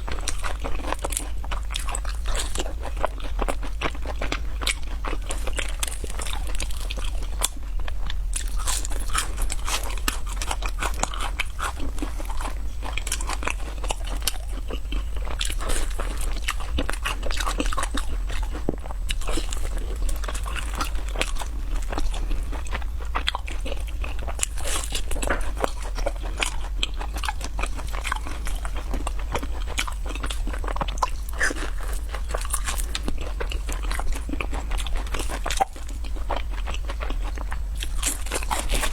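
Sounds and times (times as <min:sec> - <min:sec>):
crunching crispy snacks: 0:00.0 - 0:38.9.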